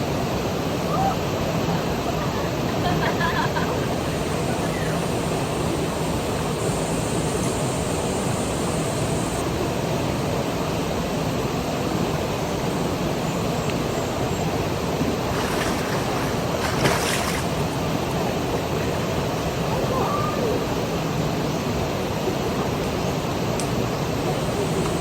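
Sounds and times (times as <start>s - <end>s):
rushing water: 0.0s - 25.0s.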